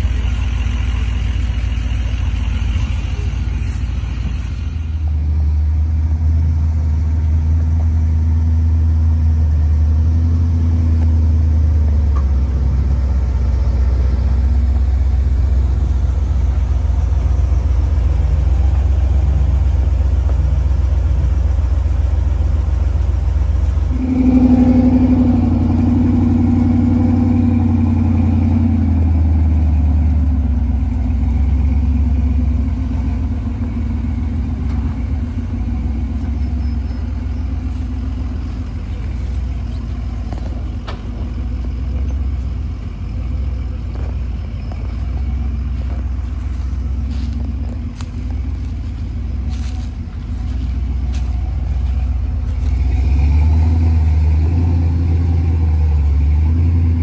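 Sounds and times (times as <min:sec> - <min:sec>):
engine revving: 0:00.0 - 0:57.0
off-road vehicle engines rumbling: 0:00.0 - 0:57.0.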